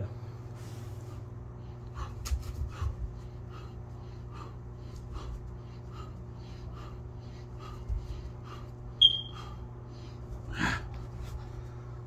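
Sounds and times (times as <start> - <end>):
man breathing hard: 0.0 - 12.0
steady low hum: 0.0 - 12.0.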